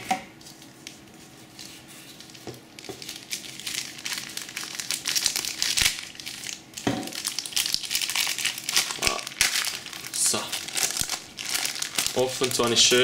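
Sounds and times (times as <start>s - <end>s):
plastic packaging crinkling: 0.4s - 13.0s.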